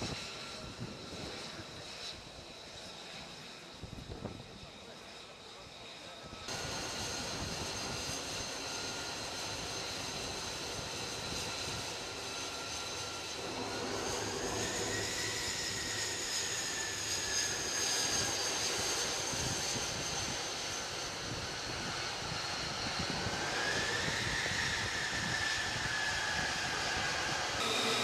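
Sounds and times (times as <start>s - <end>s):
jet engine roaring with whine: 0.0s - 28.0s.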